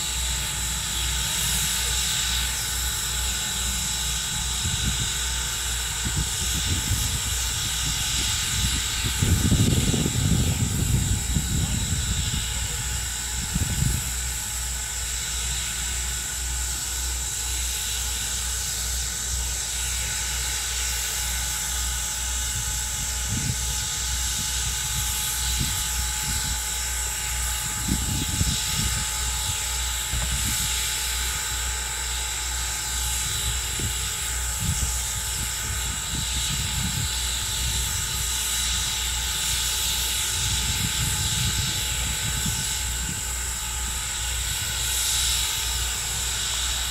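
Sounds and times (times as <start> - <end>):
steam locomotive hissing: 0.0 - 46.9.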